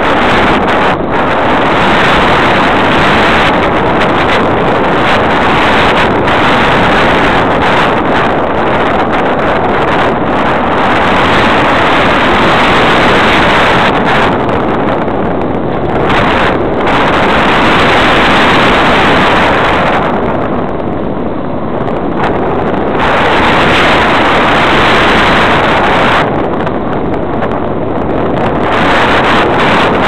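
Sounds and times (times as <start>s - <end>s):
rushing airflow over microphone: 0.0s - 30.0s.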